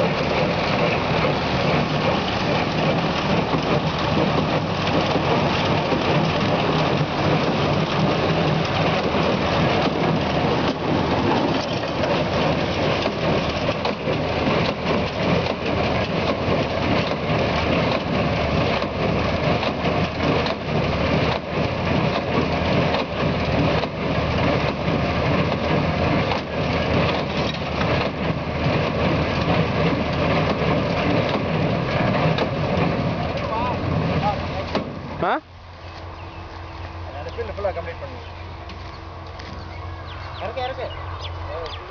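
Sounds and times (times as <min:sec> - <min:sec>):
baler crunching clatter: 0:00.0 - 0:41.9
tractor engine drone: 0:00.0 - 0:41.9.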